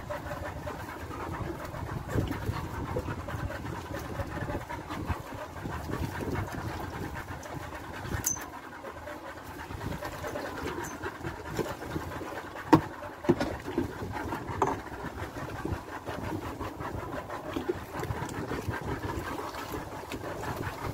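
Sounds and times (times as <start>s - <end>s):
water: 0.0s - 20.9s
wind: 0.0s - 20.9s.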